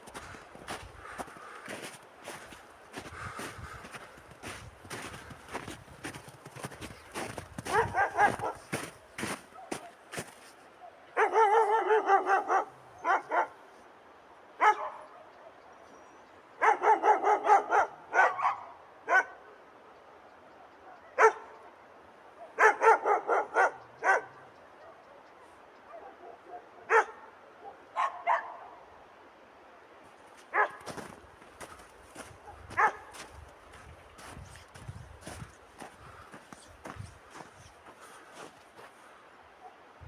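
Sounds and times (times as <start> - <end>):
dog barking: 0.7 - 13.6, 14.6 - 15.9, 16.6 - 19.6, 20.6 - 21.7, 22.4 - 28.8, 30.5 - 38.5.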